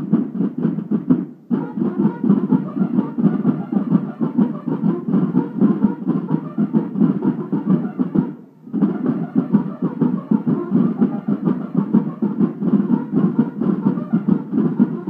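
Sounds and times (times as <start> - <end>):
snare drums playing march cadence: 0.0 - 15.0.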